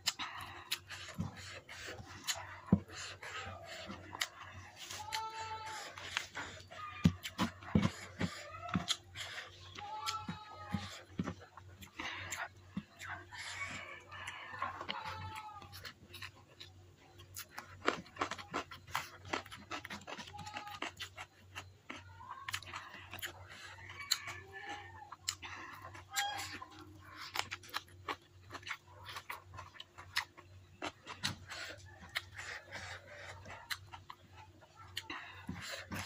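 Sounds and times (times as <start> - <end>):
chewing and lip-smacking: 0.0 - 36.0.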